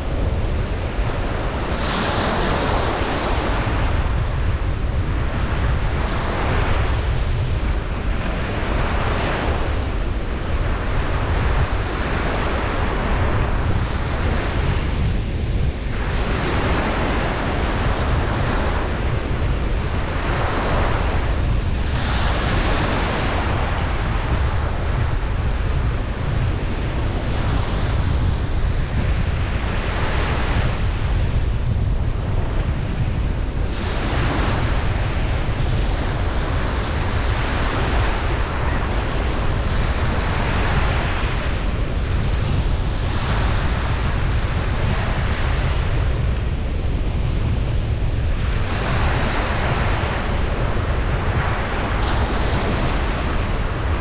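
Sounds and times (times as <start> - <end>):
ocean waves breaking on beach: 0.0 - 54.0
wind buffeting microphone: 0.0 - 54.0.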